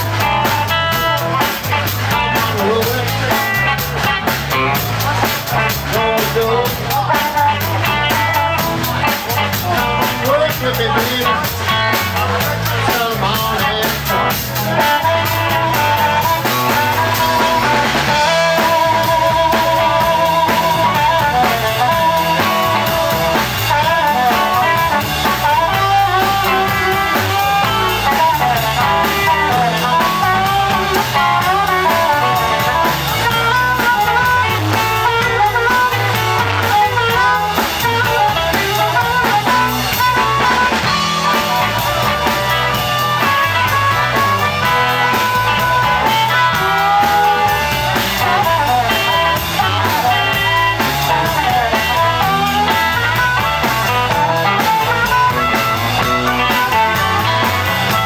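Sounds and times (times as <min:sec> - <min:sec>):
drum kit: 0:00.0 - 0:58.0
electric guitar: 0:00.0 - 0:58.0
harmonica playing blues: 0:00.0 - 0:58.0.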